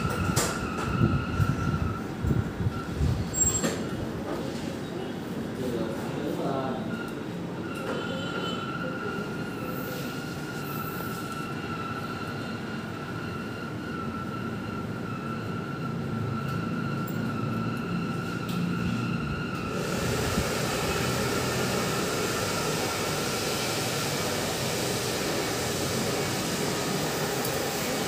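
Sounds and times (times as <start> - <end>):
machine whine: 0.0 - 4.4, 6.5 - 28.0.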